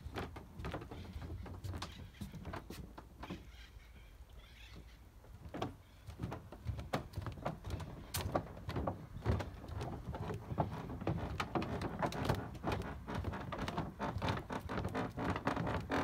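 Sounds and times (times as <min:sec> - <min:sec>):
footsteps on wooden planks: 0:00.0 - 0:03.6, 0:04.8 - 0:16.0.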